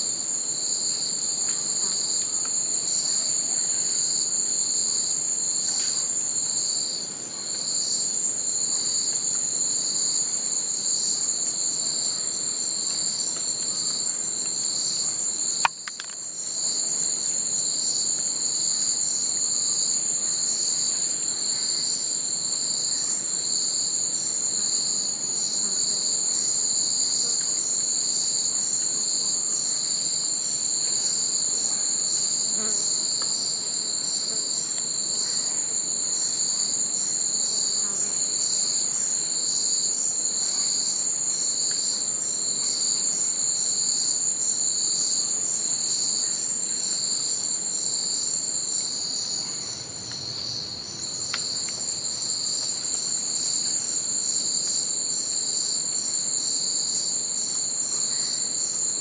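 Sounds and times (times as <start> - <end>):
high-pitched insect trills: 0.0 - 59.0
pulsing low insect trill: 0.0 - 59.0.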